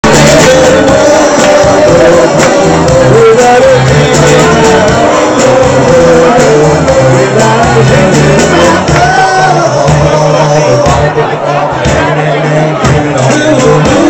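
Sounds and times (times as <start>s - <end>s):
singing over stepping bass line: 0.0s - 14.0s.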